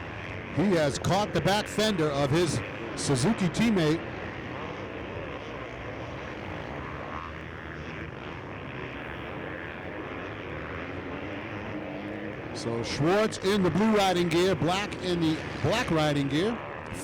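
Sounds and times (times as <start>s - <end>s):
motocross bike engines droning: 0.0s - 17.0s.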